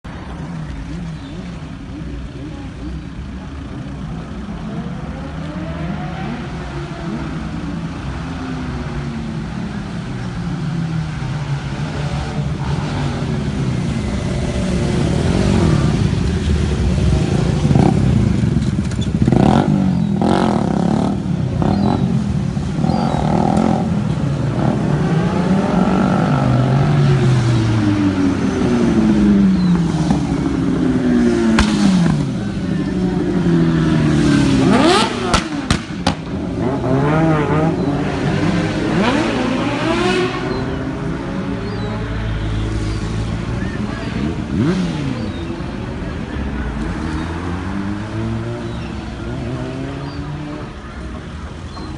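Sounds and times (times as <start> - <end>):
cars and motorcycles passing: 0.0 - 51.9
engines revving: 0.1 - 51.9.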